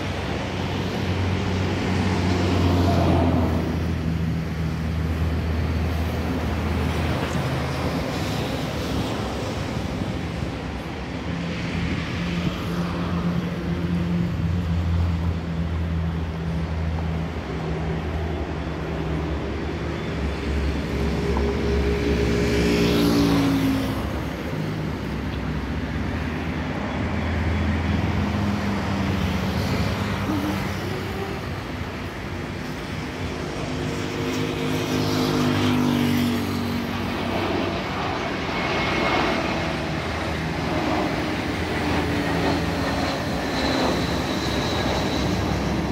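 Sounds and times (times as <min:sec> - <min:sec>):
airplane jet engines: 0:00.0 - 0:45.9
road traffic passing: 0:00.0 - 0:45.9.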